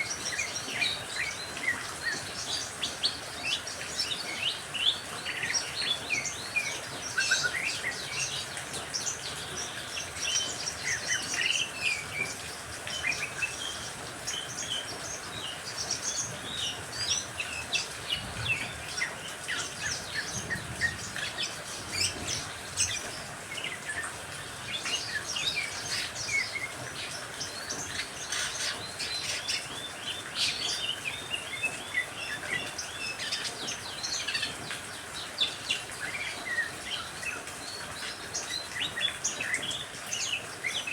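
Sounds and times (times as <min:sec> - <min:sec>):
birds chirping and singing: 0:00.0 - 0:40.9
rain hiss: 0:00.0 - 0:40.9.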